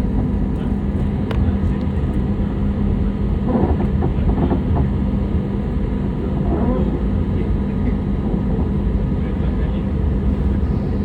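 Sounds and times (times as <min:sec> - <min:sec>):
airliner cabin engine rumble: 0:00.0 - 0:11.0
constant low hum: 0:00.0 - 0:11.0.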